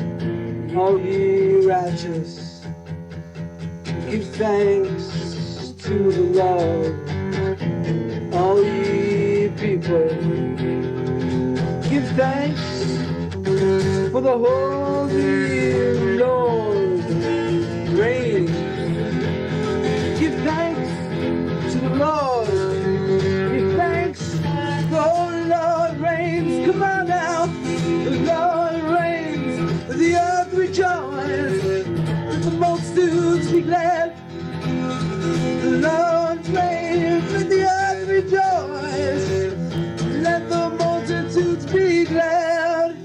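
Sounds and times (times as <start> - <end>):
worship band music with guitar: 0.0 - 43.0.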